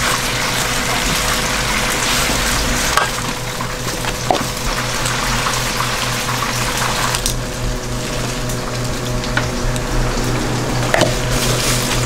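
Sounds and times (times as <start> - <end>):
pulsing machine hum: 0.0 - 12.0.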